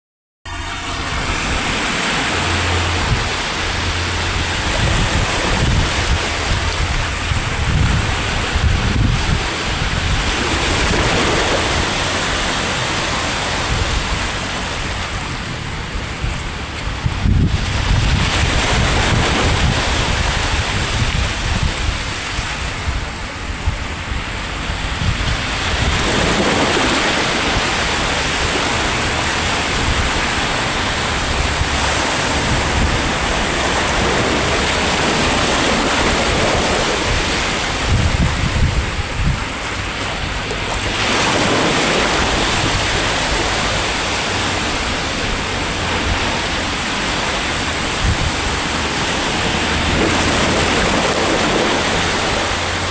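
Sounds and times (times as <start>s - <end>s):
sea waves breaking: 0.5s - 52.9s
wind buffeting microphone: 0.5s - 52.9s.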